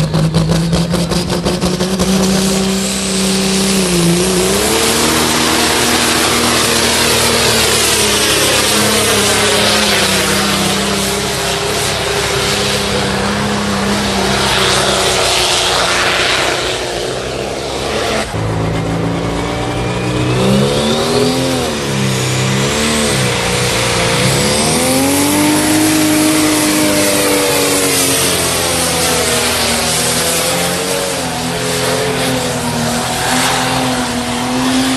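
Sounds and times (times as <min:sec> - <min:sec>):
tractor engine running hard: 0:00.0 - 0:34.9.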